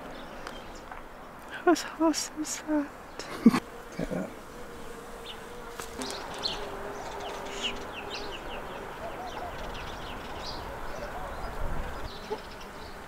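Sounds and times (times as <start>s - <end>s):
small songbirds chirping: 0.0s - 13.0s
flying insect buzz: 1.6s - 13.0s.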